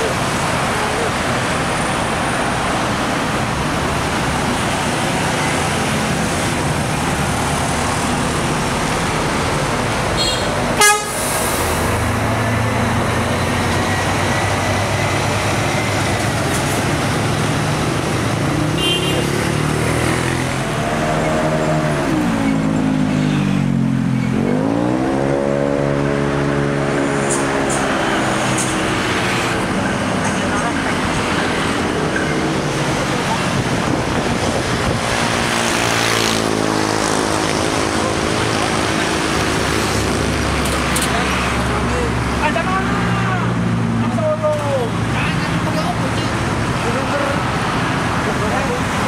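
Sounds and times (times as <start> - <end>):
diesel bus engine revving: 0.0 - 42.5.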